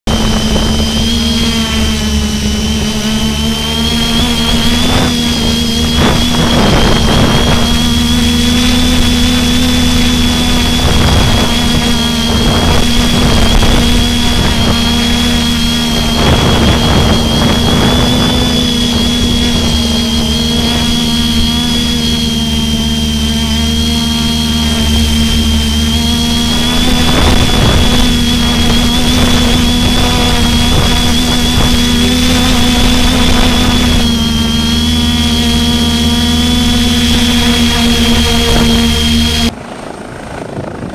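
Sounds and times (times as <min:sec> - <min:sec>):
helicopter running: 0:00.0 - 0:40.9.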